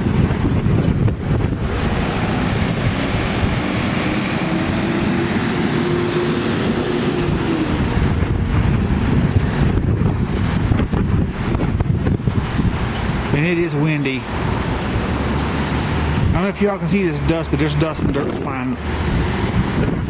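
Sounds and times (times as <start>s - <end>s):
wind rumbling on microphone: 0.0s - 20.0s
vehicle passing by: 1.2s - 11.6s, 12.3s - 20.0s.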